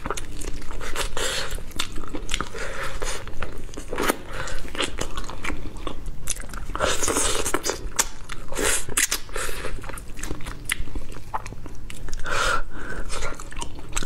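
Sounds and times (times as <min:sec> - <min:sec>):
biting and chewing: 0:00.0 - 0:12.3, 0:13.1 - 0:14.0.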